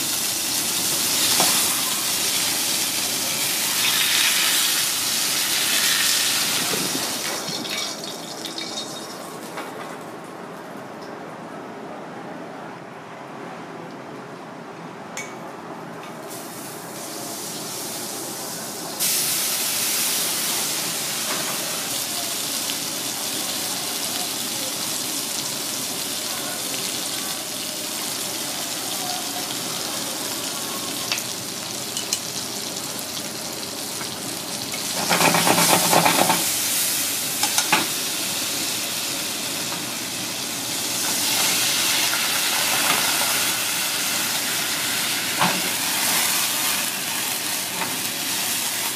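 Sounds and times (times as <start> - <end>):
tomato sizzling in hot oil: 0.0 - 9.4, 18.8 - 48.9.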